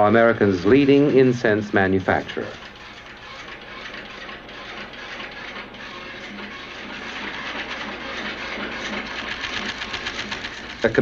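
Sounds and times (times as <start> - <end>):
machine clattering: 0.0 - 11.0.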